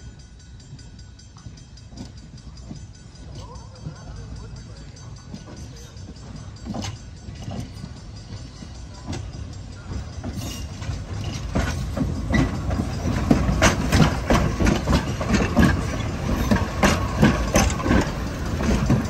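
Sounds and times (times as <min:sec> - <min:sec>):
electric train cars rumbling past: 0:00.0 - 0:19.0
wheels clicking on rails: 0:00.0 - 0:19.0.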